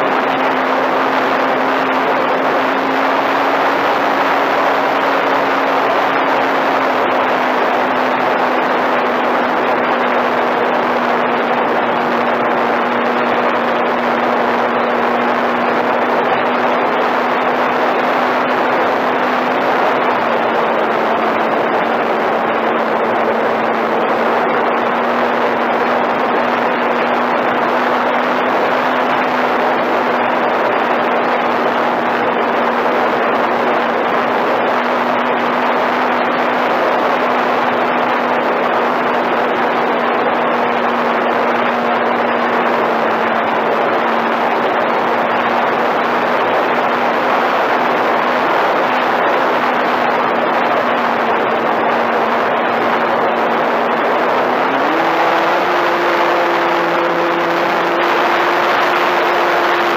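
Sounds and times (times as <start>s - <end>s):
electric motor and propeller whine: 0.0s - 59.9s
loud wind rush: 0.0s - 59.9s.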